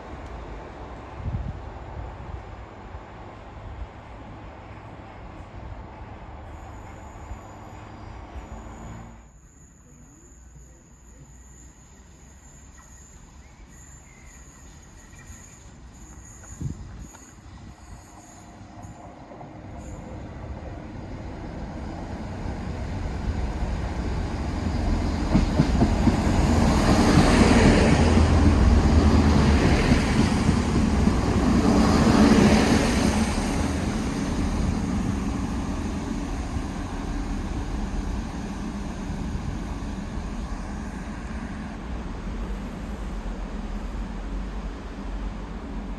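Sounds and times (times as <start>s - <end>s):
train passing: 0.0s - 45.9s.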